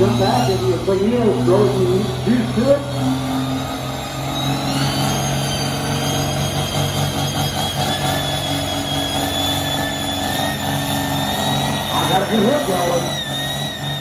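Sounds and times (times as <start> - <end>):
high whine: 0.0 - 14.0
tractor engine working hard: 0.0 - 14.0.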